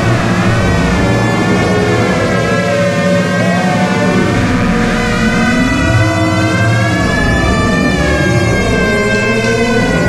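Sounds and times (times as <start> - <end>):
electronic drone music: 0.0 - 10.0.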